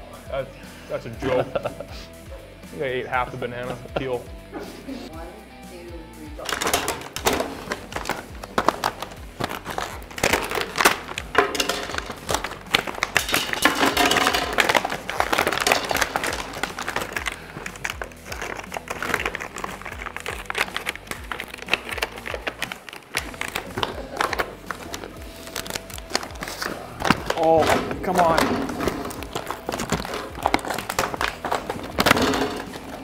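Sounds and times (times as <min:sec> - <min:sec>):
packaging crinkling and tearing: 0:06.4 - 0:33.0.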